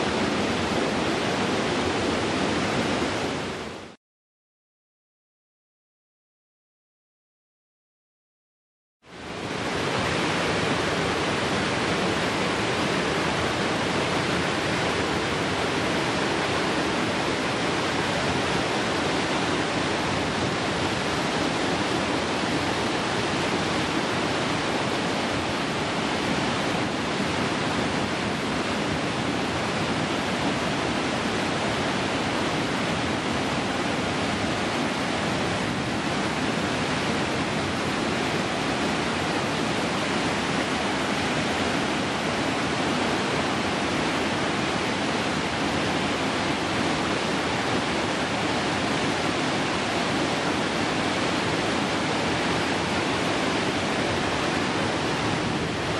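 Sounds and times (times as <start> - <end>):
waterfall rushing over rocks: 0.0 - 4.0, 9.1 - 55.9.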